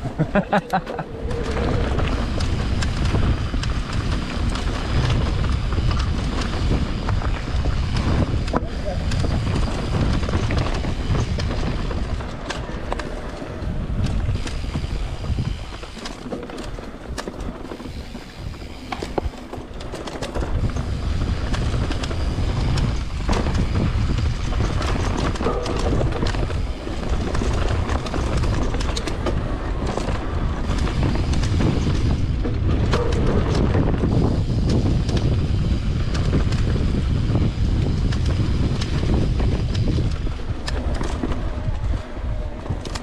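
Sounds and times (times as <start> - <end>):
bike tyres rolling on dirt: 0.0 - 43.0
wind rumble on microphone: 0.0 - 43.0
bike knocks and rattles: 0.4 - 43.0.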